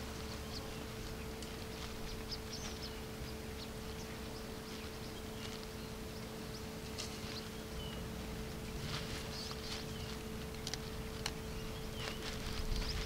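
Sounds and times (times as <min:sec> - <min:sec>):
birds chirping and clicking: 0:00.0 - 0:13.0
steady low hum: 0:00.0 - 0:13.0.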